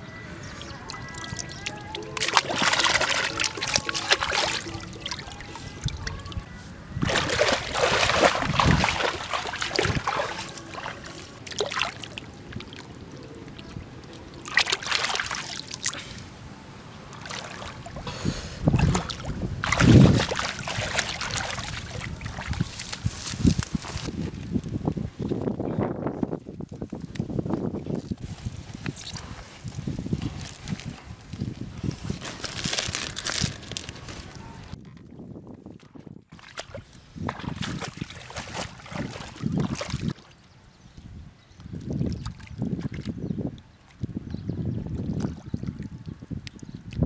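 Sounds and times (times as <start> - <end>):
pond water splashing by hand: 0.4 - 24.8, 26.9 - 34.8, 36.3 - 40.5, 41.6 - 47.0.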